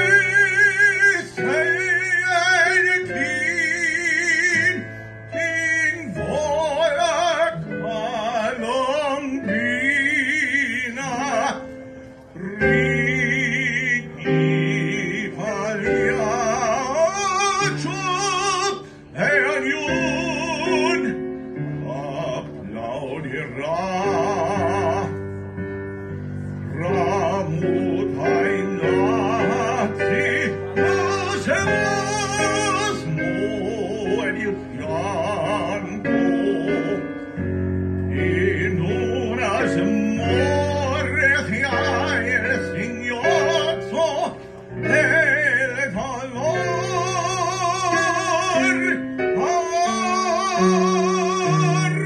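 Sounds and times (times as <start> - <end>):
man singing operatic aria: 0.0 - 52.0.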